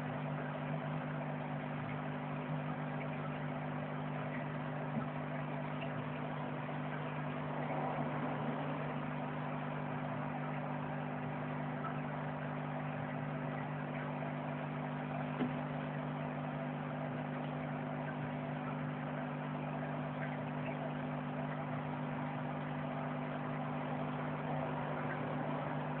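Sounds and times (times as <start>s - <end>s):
aquarium pump humming: 0.0s - 26.0s.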